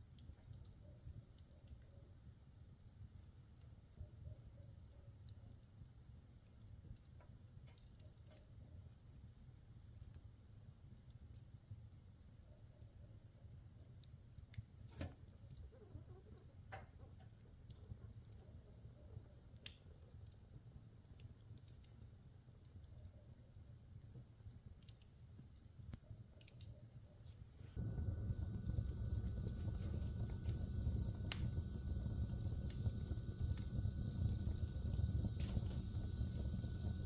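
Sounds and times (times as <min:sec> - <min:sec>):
low steady fire rumble: 0:00.0 - 0:37.0
wood fire crackling: 0:00.0 - 0:37.0.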